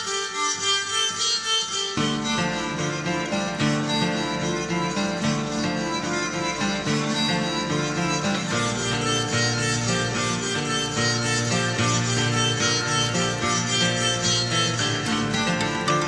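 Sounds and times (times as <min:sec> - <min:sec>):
acoustic guitar playing: 0:00.3 - 0:16.0.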